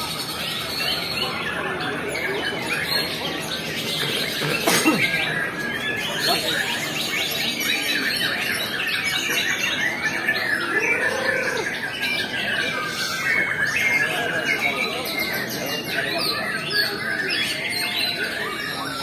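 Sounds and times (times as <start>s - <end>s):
songbirds chorus: 0.0s - 19.0s.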